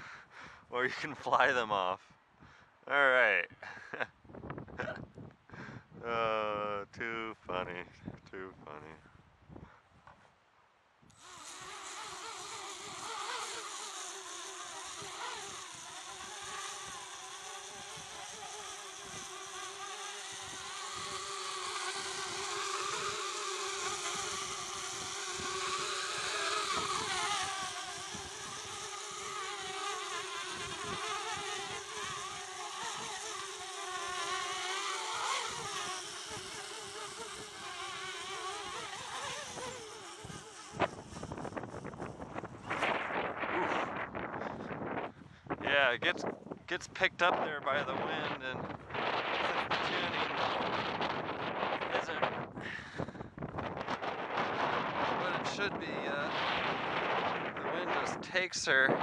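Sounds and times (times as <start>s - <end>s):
quadcopter propellers buzzing: 11.1s - 59.0s.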